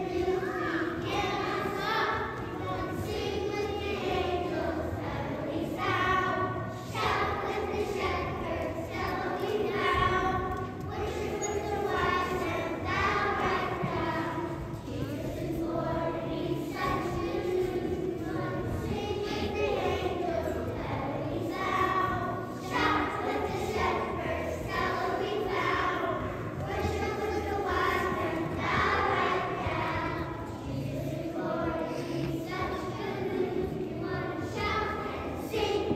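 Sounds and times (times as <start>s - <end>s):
children's choir singing: 0.0s - 35.9s.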